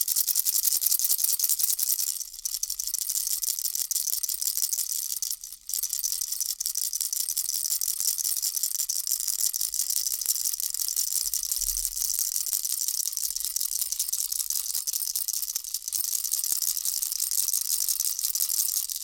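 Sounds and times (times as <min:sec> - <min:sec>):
baby rattle shaking: 0:00.0 - 0:19.0.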